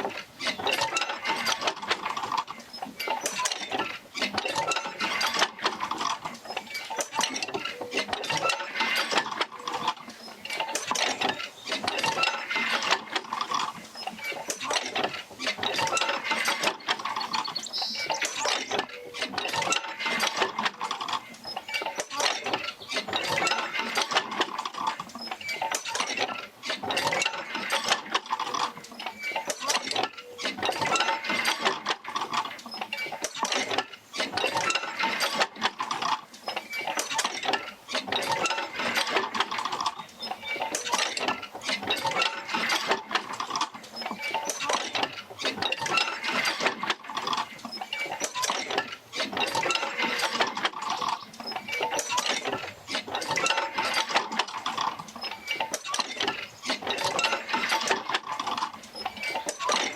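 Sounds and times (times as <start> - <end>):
mechanical clatter of knocks: 0.0 - 59.9
squeaking joints: 0.0 - 59.9.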